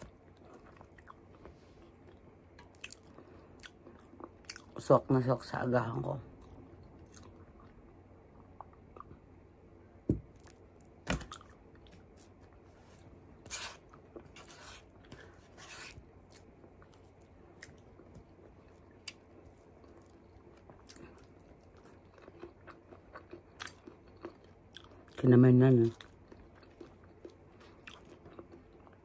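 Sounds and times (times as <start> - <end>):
chewing soft food: 0.0 - 4.9, 6.3 - 9.2, 10.3 - 29.0.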